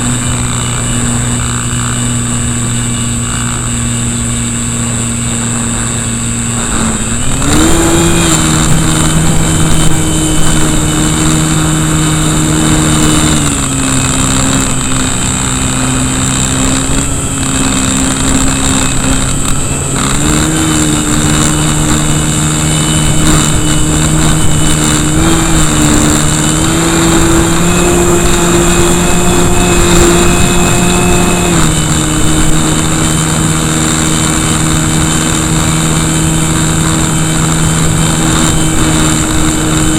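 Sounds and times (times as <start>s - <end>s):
electric motor and propeller whining: 0.0s - 39.9s
wind noise on microphone: 0.0s - 39.9s.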